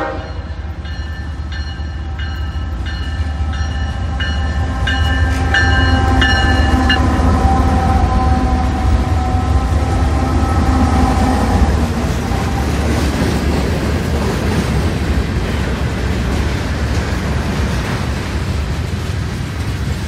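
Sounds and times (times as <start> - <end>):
locomotive engine hum: 0.0 - 20.0
train wheels rumbling on rails: 0.0 - 20.0.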